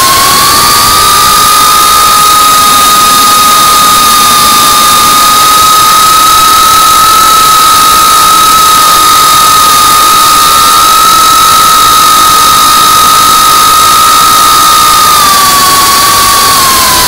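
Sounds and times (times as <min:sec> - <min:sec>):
drone motors whining: 0:00.0 - 0:09.2, 0:12.0 - 0:17.0.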